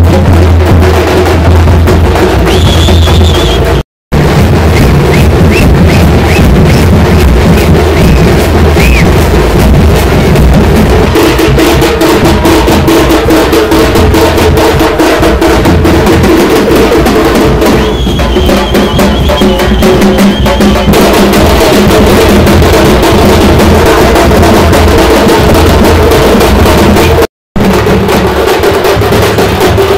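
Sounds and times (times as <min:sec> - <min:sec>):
fast drumming with music: 0:00.0 - 0:29.9.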